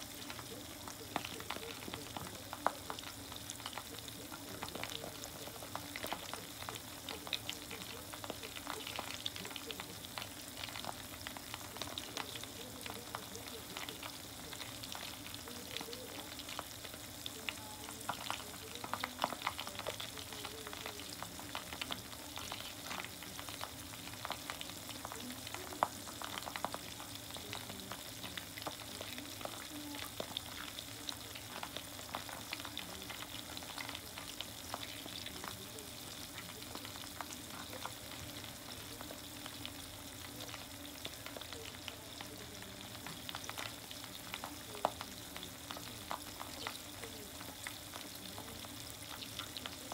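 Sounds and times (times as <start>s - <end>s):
food deep-frying in oil: 0.0s - 49.9s
oil crackling and popping: 0.0s - 49.9s.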